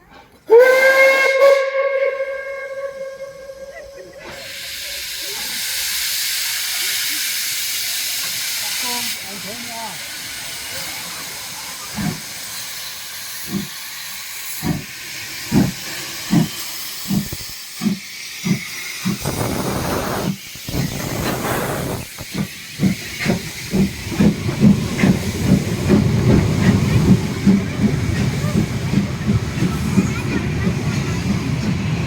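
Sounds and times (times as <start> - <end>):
steam locomotive chuffing: 0.0 - 32.0
steam hissing: 0.5 - 32.0.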